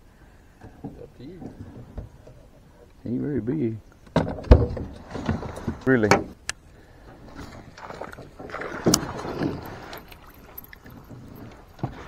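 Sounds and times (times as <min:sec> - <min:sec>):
knocks and creaks in boat: 0:00.5 - 0:12.0.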